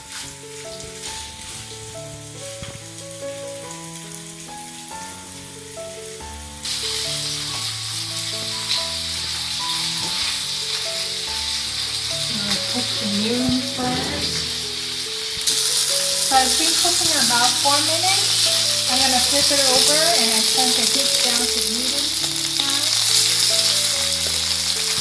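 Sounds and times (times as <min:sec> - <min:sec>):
background music melody: 0:00.0 - 0:25.0
chicken sizzling in hot oil: 0:00.0 - 0:25.0.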